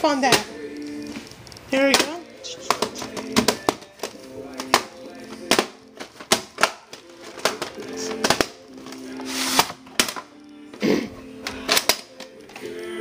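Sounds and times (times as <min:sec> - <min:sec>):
background music low notes: 0:00.0 - 0:13.0
plastic tape cases clacking: 0:01.1 - 0:10.4, 0:11.4 - 0:12.7.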